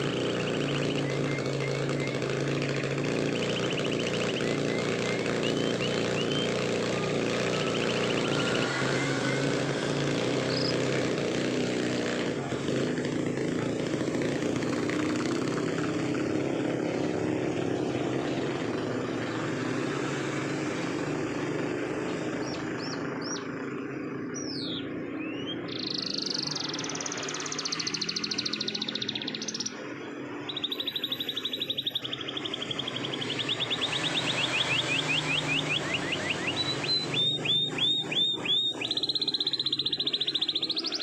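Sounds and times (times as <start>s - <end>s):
canary singing: 0.0s - 41.0s
engine drone: 0.0s - 41.0s.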